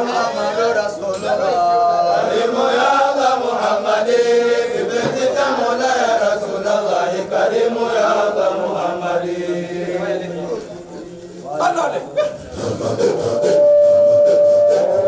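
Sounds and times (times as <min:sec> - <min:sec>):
voices chanting devotional song: 0:00.0 - 0:15.0.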